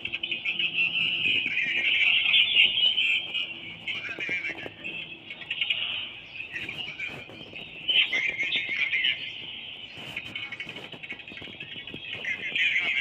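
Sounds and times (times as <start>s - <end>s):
chorus of high chirping: 0.0s - 13.0s.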